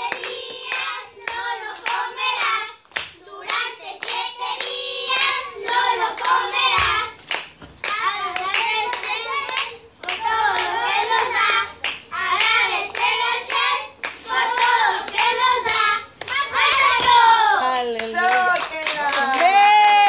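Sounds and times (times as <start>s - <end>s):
hand claps: 0.0s - 17.3s, 17.9s - 20.0s.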